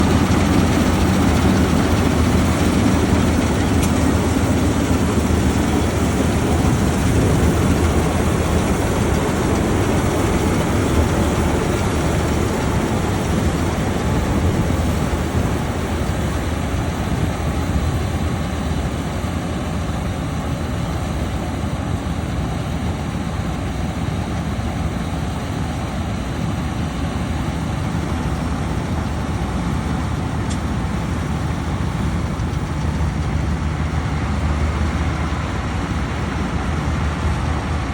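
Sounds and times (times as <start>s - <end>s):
combine harvester engine drone: 0.0s - 37.9s.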